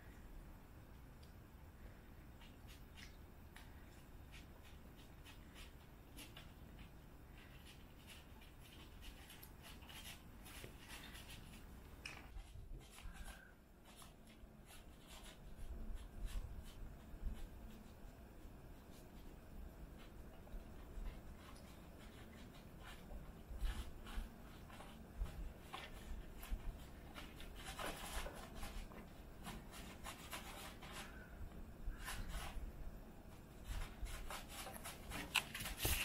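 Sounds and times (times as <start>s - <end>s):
cats chewing and lapping: 0.9s - 36.0s.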